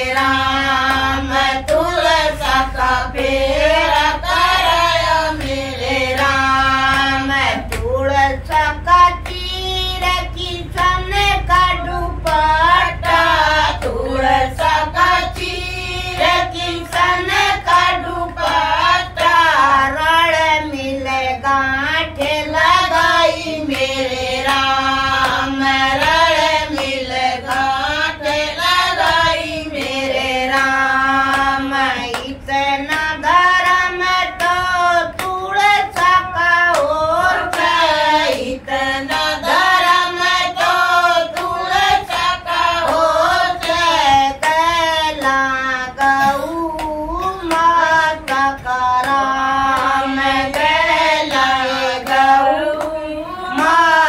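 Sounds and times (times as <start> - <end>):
hand claps: 0.0 - 19.5, 22.2 - 54.0
women singing together: 0.0 - 54.0.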